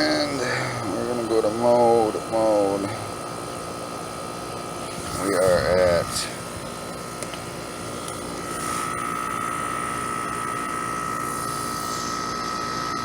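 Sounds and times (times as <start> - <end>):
high whine: 0.0 - 3.6, 4.5 - 13.0
air conditioner unit running: 0.0 - 13.0.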